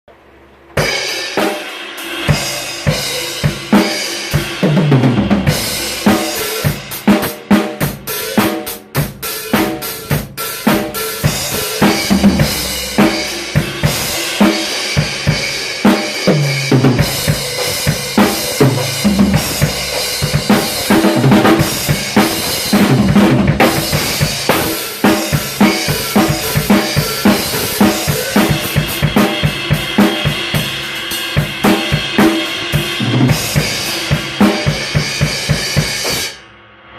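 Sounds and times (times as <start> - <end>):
drum kit playing a groove: 0.7 - 36.4
drum fills: 0.8 - 36.4
cymbals ringing: 5.5 - 36.4.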